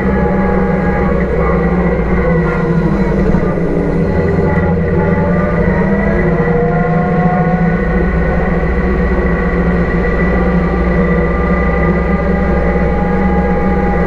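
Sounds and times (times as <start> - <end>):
thin steady whine: 0.0 - 14.0
tractor diesel engine running: 0.0 - 14.0.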